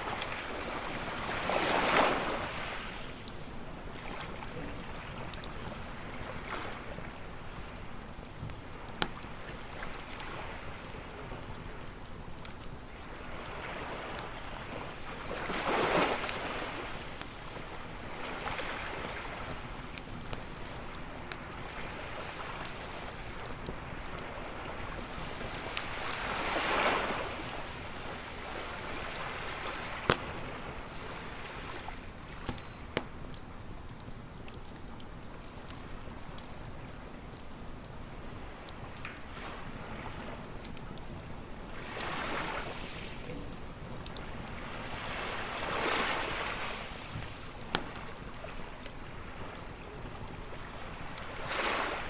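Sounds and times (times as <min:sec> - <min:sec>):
campfire popping and crackling: 0:00.0 - 0:52.0
ocean waves washing onto beach: 0:00.0 - 0:52.0.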